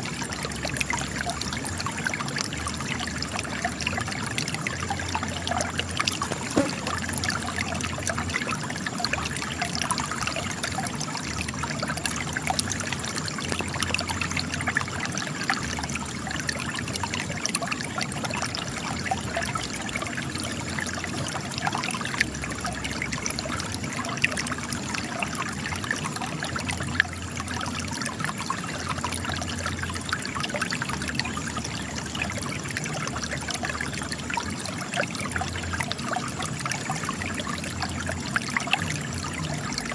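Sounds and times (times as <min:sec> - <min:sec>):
spring water trickling and splashing: 0:00.0 - 0:39.9.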